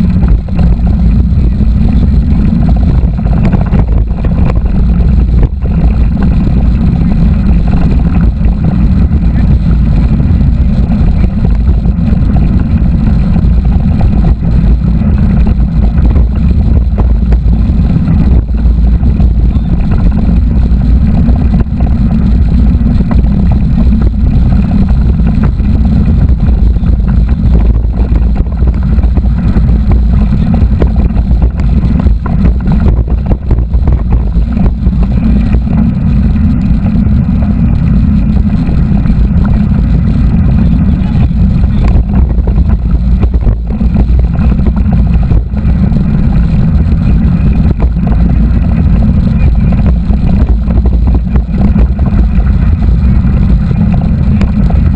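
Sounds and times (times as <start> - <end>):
bike tyre and trail rumble: 0.0 - 54.9
wind buffeting microphone: 0.0 - 54.9.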